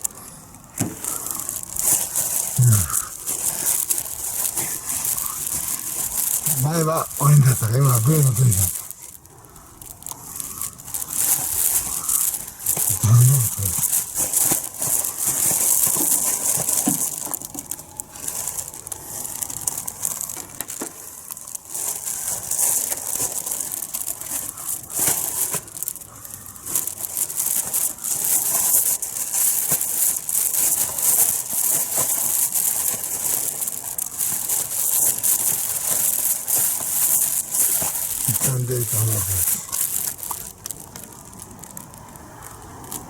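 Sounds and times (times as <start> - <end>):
rustling and crinkling: 0.0 - 43.0.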